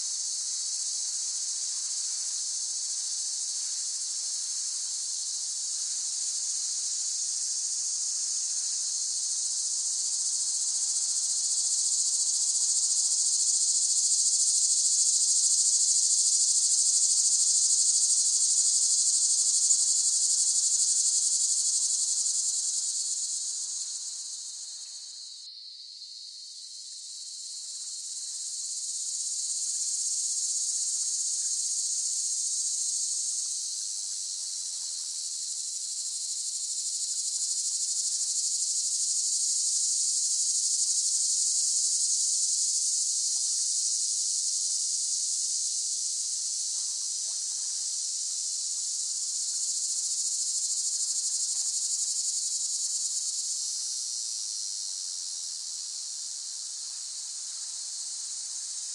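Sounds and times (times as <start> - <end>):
cicadas buzzing: 0.0 - 58.9.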